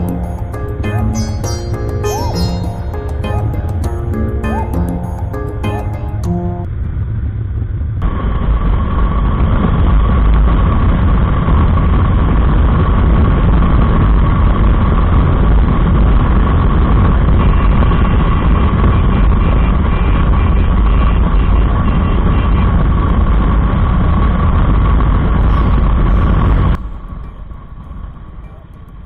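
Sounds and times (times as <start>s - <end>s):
faint steady whine: 0.0s - 29.0s.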